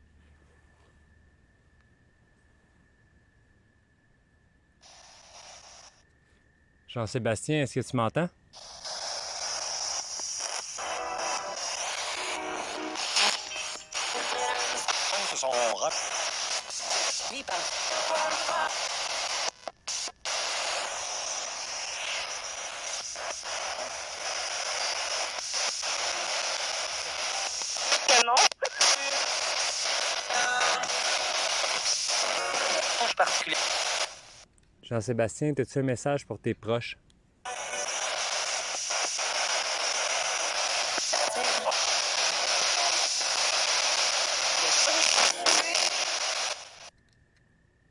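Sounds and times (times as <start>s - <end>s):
radio static hiss: 4.8s - 6.0s, 6.9s - 35.8s, 36.8s - 46.9s.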